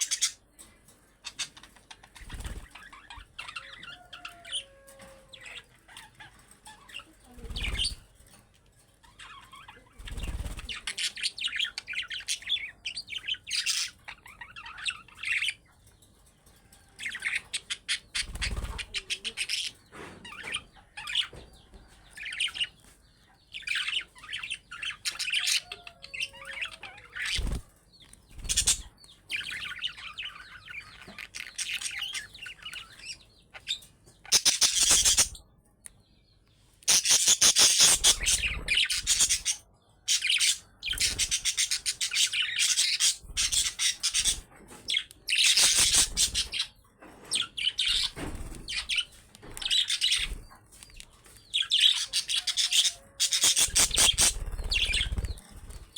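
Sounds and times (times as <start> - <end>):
budgerigars chirping and chattering: 0.0 - 16.0, 17.0 - 55.9.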